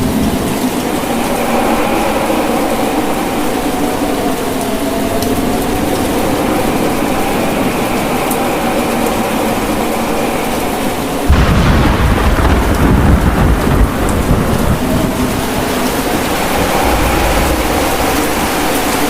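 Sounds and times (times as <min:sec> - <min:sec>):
low rumble of thunder: 0:00.0 - 0:19.0
steady rain: 0:00.0 - 0:19.0.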